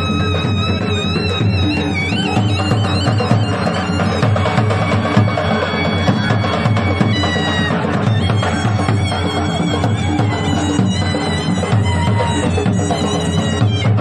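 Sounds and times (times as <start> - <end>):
fast dhol drumming: 0.0 - 14.0
high held melody: 0.0 - 14.0.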